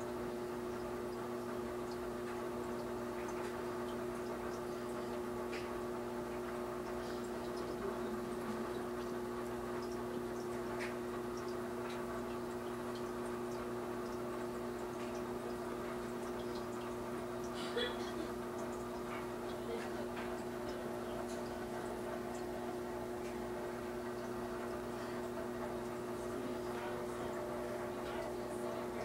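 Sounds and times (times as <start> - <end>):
aquarium pump humming: 0.0 - 29.0.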